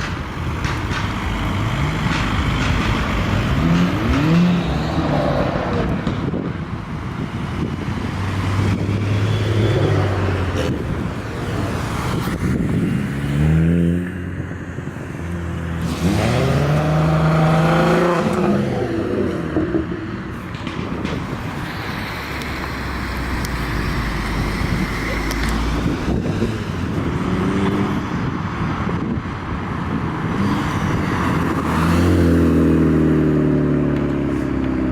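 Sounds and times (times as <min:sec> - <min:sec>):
cars accelerating past: 0:01.0 - 0:06.8, 0:07.6 - 0:29.2, 0:30.2 - 0:34.9.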